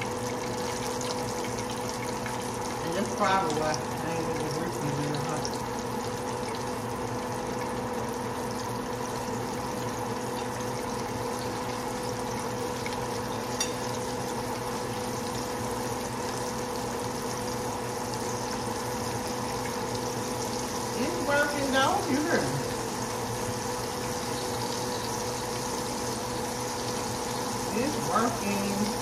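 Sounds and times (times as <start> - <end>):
pork chops sizzling in oil: 0.0 - 29.0.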